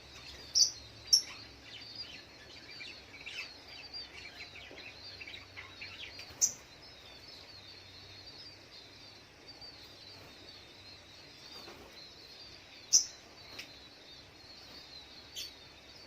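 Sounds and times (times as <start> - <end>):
bird twittering: 0.0 - 16.0.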